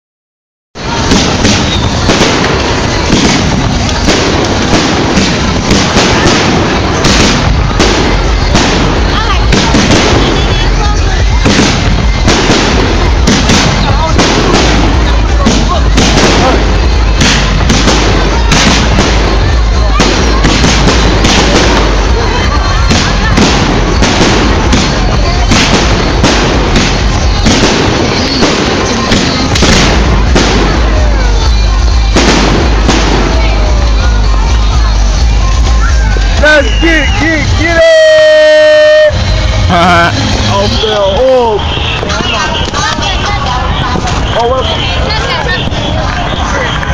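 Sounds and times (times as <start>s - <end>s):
fireworks banging and crackling: 0.8s - 46.9s.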